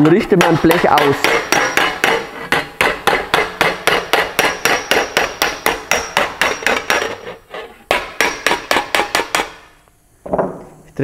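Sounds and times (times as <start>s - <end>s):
hammer blows on sheet steel: 0.0s - 7.3s, 7.9s - 9.8s.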